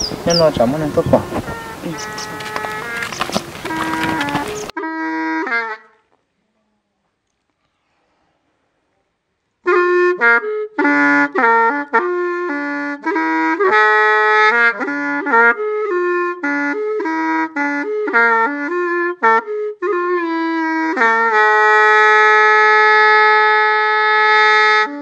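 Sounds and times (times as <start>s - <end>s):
solo wind instrument melody: 0.0s - 6.1s, 9.6s - 25.0s.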